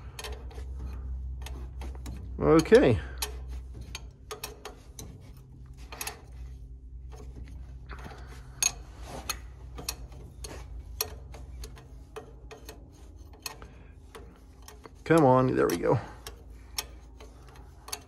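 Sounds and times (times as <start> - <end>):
steady low hum: 0.0 - 18.0
wrench clicking on metal fittings: 0.0 - 18.0.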